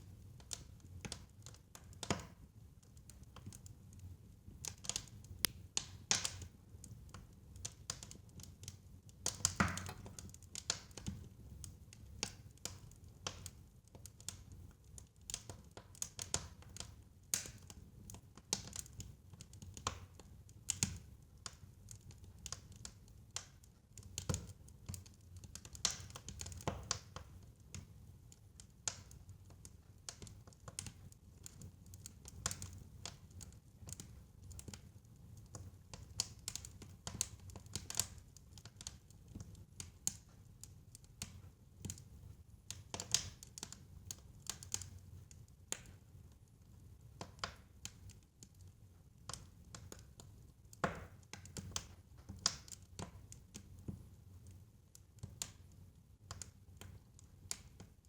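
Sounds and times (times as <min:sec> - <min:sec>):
fireplace fire crackling: 0:00.0 - 0:58.0.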